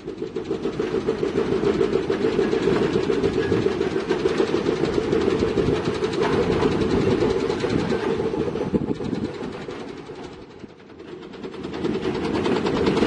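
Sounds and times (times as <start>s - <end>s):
diesel engine running: 0.0s - 13.0s
fast metallic clatter: 0.0s - 13.0s.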